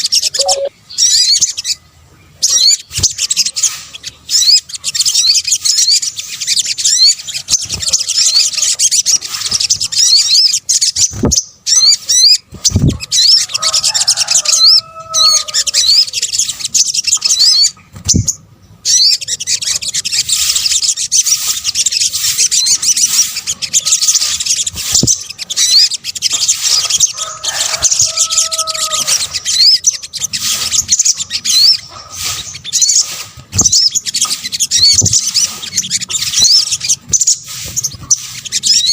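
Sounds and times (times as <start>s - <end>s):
sunbirds chirping and trilling: 0.0s - 38.9s.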